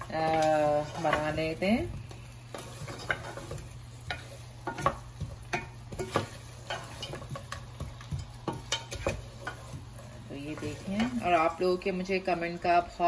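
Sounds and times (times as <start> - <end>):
wooden spatula scraping pan: 0.0 - 11.9
faint sizzle: 0.0 - 13.0.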